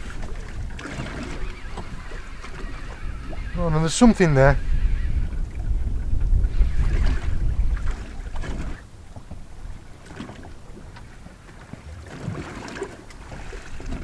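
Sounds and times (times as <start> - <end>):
wind buffeting microphone: 0.0 - 11.4
water lapping against boat hull: 0.0 - 14.0.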